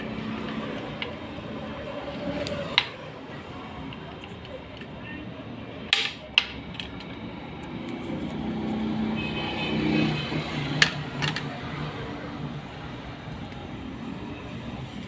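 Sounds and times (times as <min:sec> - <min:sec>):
vehicle engine hum: 0:00.0 - 0:05.9, 0:06.6 - 0:15.0.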